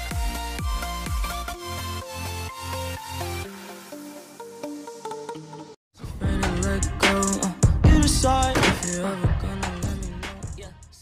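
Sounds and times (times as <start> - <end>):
electronic dance music: 0.0 - 5.7, 6.3 - 11.0.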